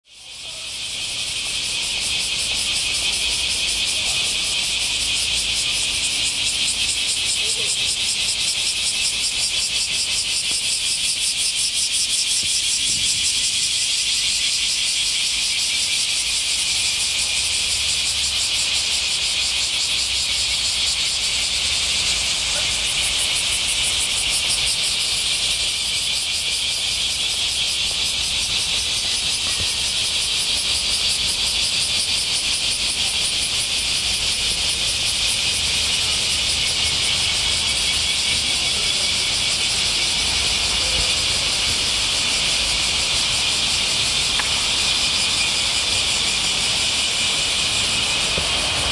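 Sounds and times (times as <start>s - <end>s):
cicadas singing: 0.0s - 48.9s.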